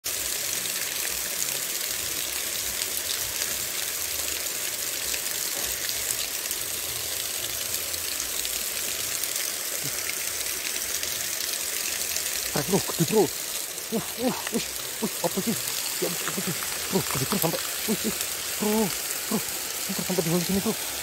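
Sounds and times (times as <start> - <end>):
water rushing over a weir: 0.1 - 21.0.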